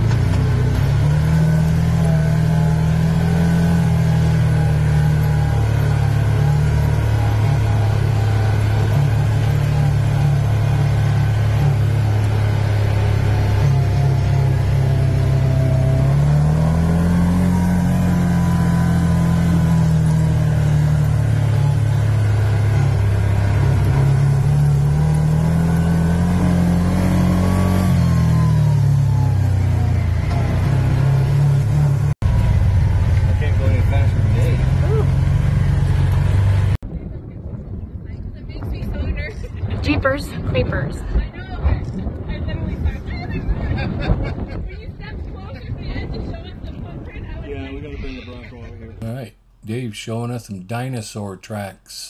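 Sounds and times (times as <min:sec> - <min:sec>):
off-road vehicle engine running: 0:00.0 - 0:48.4.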